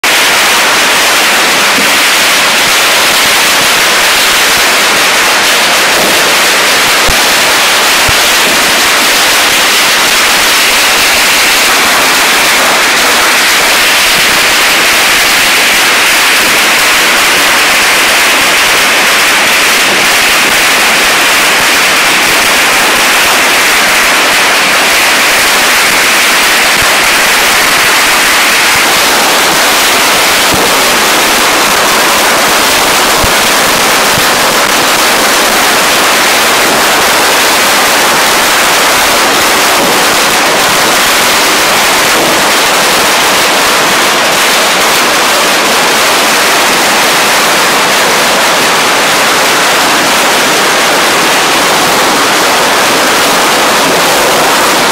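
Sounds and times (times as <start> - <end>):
firecrackers exploding: 0.0 - 54.9.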